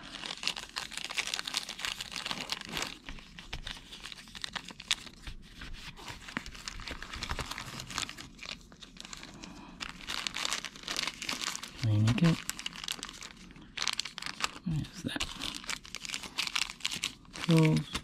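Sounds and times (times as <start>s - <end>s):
plastic bags crinkling: 0.0s - 18.0s.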